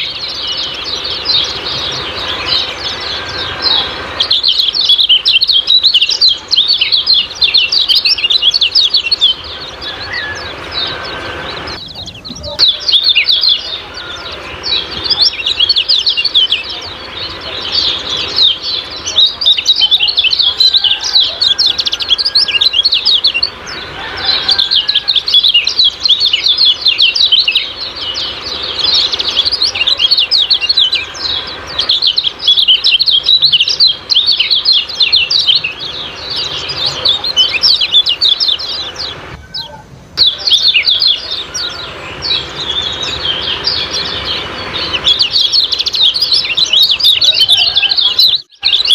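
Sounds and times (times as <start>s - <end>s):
bird singing rapid high chirps: 0.0s - 48.9s.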